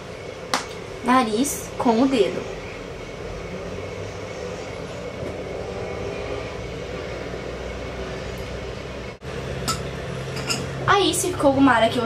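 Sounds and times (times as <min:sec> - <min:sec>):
steady rumbling: 0:00.0 - 0:12.0.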